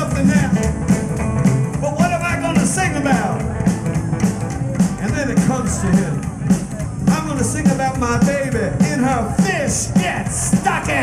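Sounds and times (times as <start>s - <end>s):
live rockabilly band playing: 0.0s - 11.0s.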